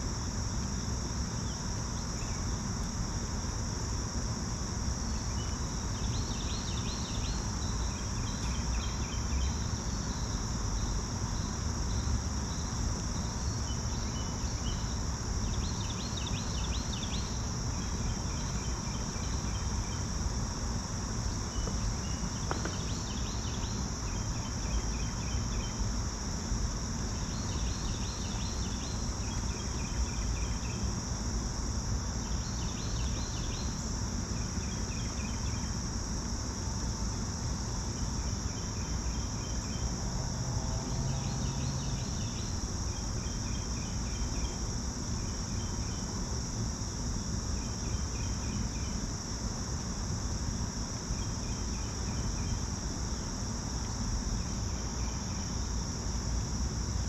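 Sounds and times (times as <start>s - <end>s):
crickets trilling: 0.0s - 57.0s
pulsed insect calls: 0.0s - 57.0s.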